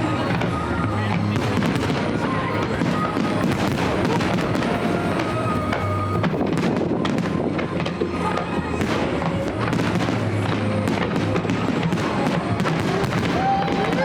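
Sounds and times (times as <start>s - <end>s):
fireworks crackling: 0.0s - 14.0s
music playing: 0.0s - 14.0s.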